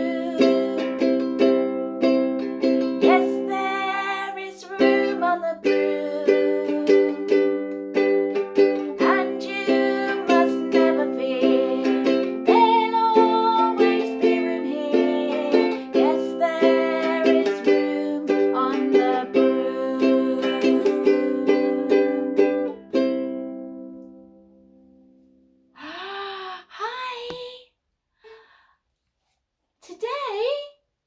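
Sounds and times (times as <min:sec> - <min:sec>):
plucked-string tune strumming: 0:00.0 - 0:25.2.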